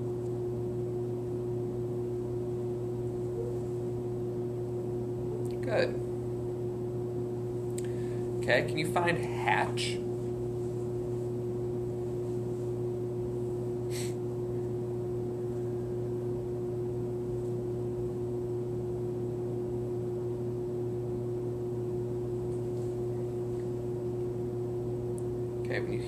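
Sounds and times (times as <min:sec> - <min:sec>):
room hum with hiss: 0:00.0 - 0:26.0.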